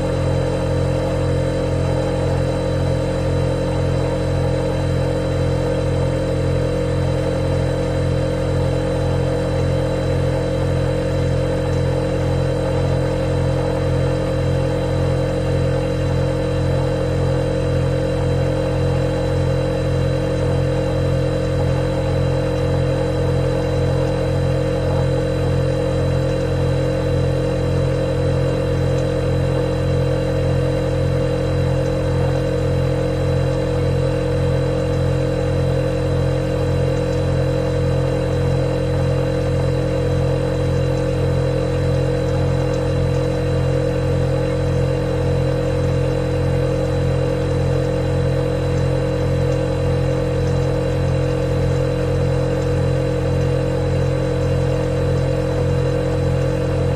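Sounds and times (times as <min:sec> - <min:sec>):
refrigerator humming: 0:00.0 - 0:56.9.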